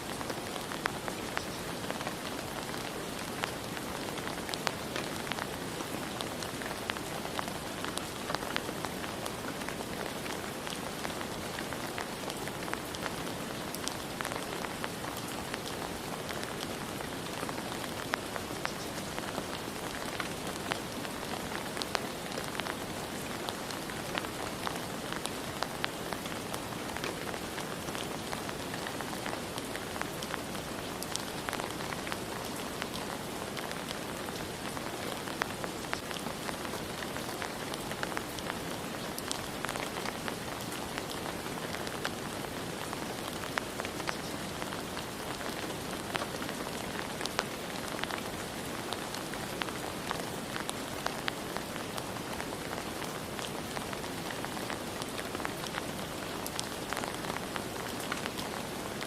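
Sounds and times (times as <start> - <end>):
raindrops ticking on hard surface: 0.1 - 59.0.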